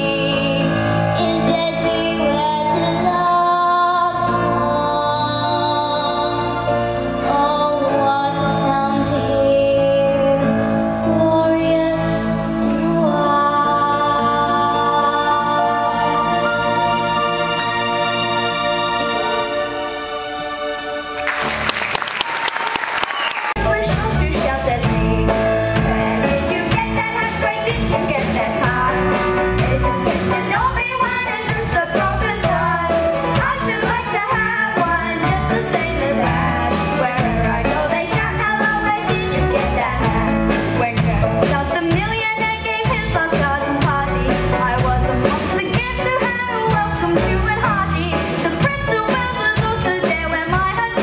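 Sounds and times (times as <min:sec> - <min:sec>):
musical theatre song singing: 0:00.0 - 0:51.0.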